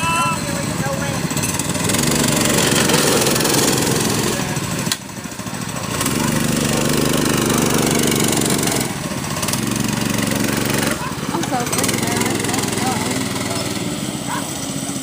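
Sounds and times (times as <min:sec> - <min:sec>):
mini bike engine running hard: 0:00.0 - 0:15.0.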